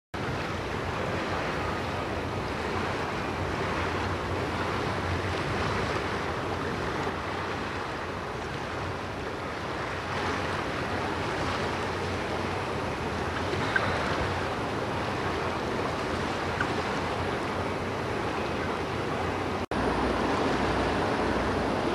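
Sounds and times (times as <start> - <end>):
motorboat engine hum: 0.2 - 21.9
river water: 0.2 - 21.9.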